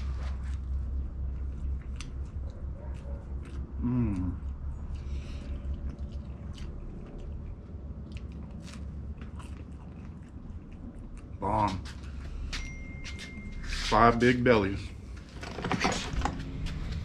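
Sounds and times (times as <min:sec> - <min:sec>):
person chewing pizza crust: 0:00.0 - 0:14.0.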